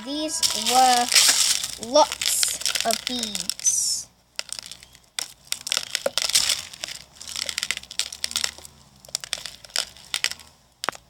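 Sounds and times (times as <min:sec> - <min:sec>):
crunchy slime crackling: 0:00.0 - 0:11.0.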